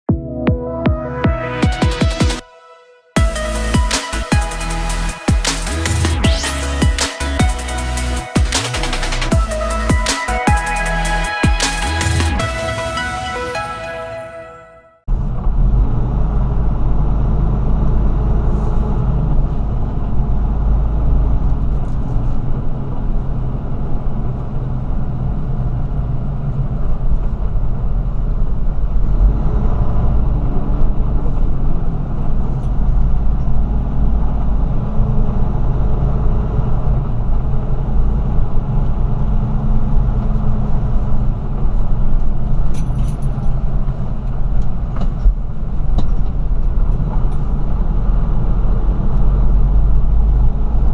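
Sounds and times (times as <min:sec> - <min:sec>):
car engine and road rumble: 0:03.2 - 0:13.7, 0:15.0 - 0:50.9.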